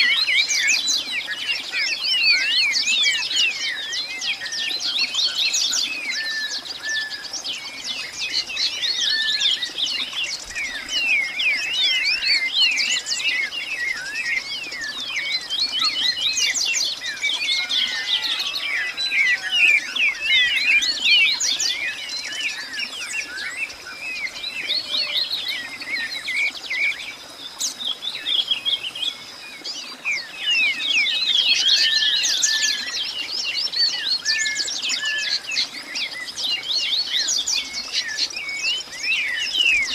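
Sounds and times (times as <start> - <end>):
chorus of birds chirping: 0.0 - 39.9.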